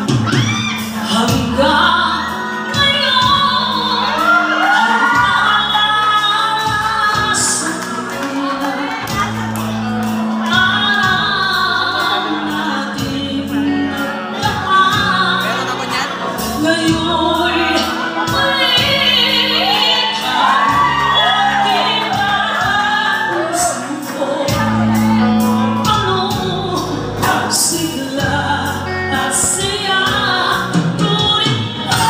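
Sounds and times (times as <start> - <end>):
electric guitar: 0.0 - 32.0
keyboard: 0.0 - 32.0
woman singing into microphone: 0.0 - 32.0.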